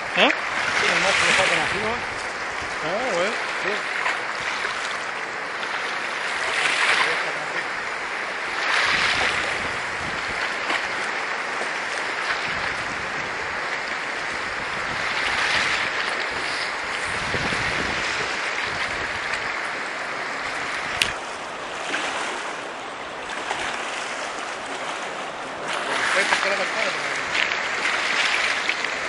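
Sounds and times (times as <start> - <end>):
river current rushing: 0.0 - 29.0.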